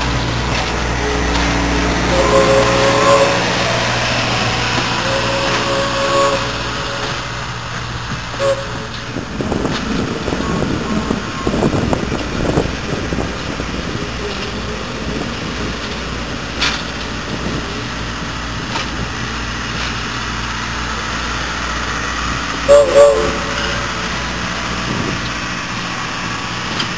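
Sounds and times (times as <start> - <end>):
train cars rumbling past: 0.0 - 26.9
wheel and rail clatter: 0.0 - 26.9.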